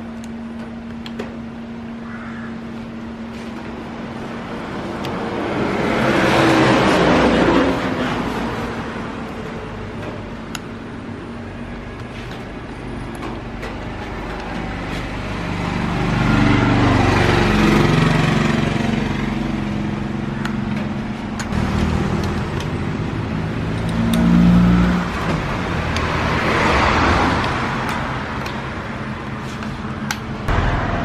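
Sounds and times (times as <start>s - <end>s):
vehicle engines passing by: 2.8s - 31.0s.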